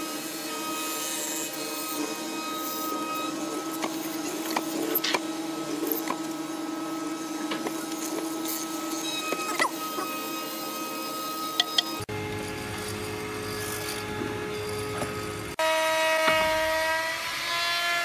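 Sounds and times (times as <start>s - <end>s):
electric motor humming: 0.0s - 15.6s.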